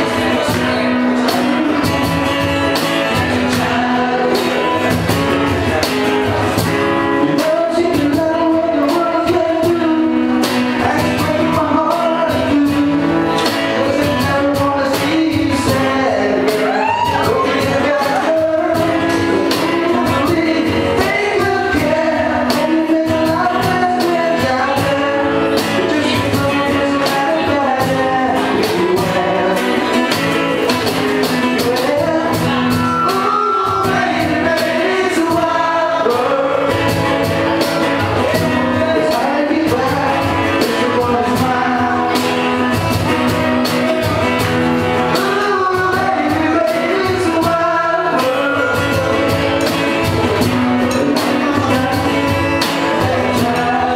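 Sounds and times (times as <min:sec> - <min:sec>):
drums: 0:00.0 - 0:53.9
guitar: 0:00.0 - 0:53.9
person singing: 0:00.0 - 0:53.9.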